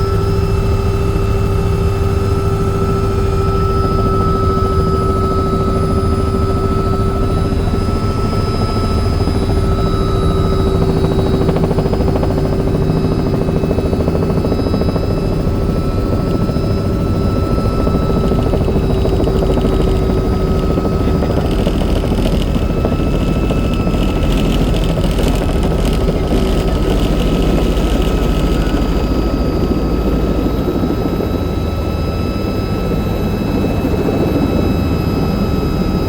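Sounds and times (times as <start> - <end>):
helicopter rotor beating: 0.0 - 36.0
turbine whine: 0.0 - 36.0.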